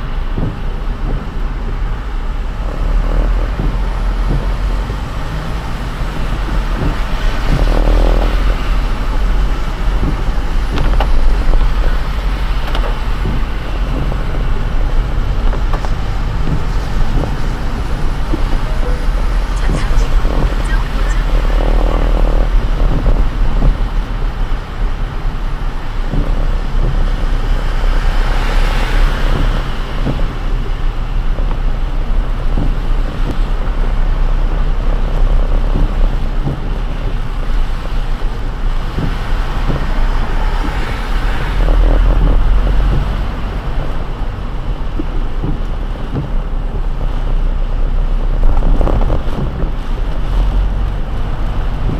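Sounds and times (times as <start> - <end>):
road noise rumble: 0.0 - 51.9
tyres hissing on wet road: 0.0 - 51.9.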